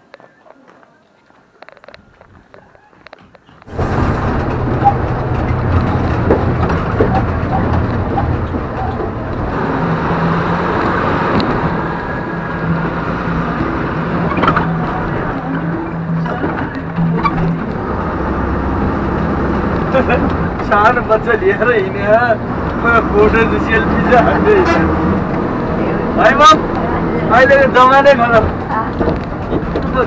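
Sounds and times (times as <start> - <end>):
bus engine and road drone: 0.0 - 30.0.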